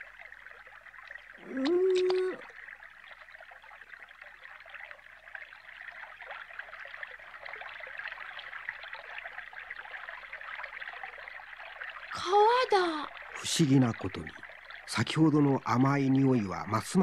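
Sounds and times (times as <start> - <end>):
river water flowing: 0.0 - 16.8.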